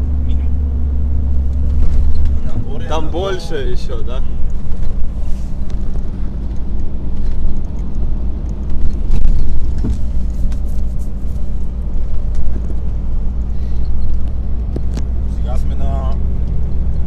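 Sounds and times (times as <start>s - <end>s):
diesel engine drone: 0.0s - 17.0s
road noise: 0.0s - 17.0s.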